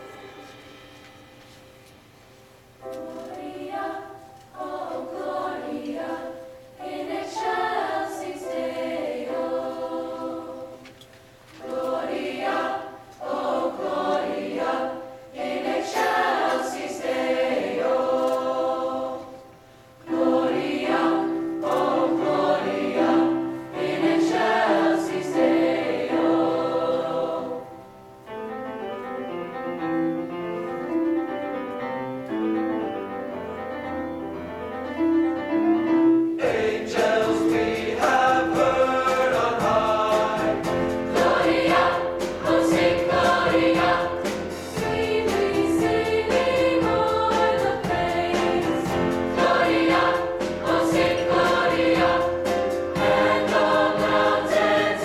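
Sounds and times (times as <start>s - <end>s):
mixed choir singing: 0.0s - 1.9s, 2.8s - 28.0s, 36.4s - 55.0s
grand piano: 0.0s - 55.0s.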